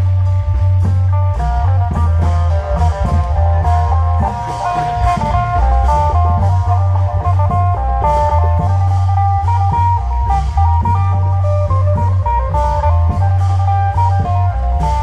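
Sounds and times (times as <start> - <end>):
electric plucked-string melody: 0.0 - 15.0
heavy steady drumming: 0.0 - 15.0.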